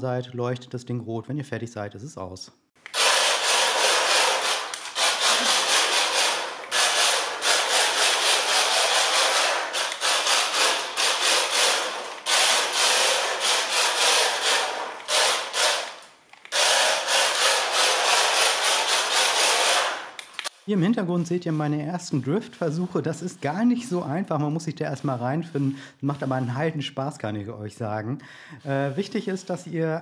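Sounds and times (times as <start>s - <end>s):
toy car tyres scrubbing on floor: 2.8s - 26.9s, 28.6s - 29.8s.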